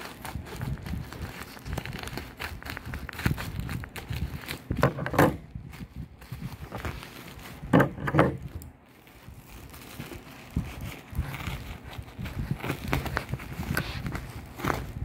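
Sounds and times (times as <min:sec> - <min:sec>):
plastic pouch tearing and crinkling: 0:00.0 - 0:15.0.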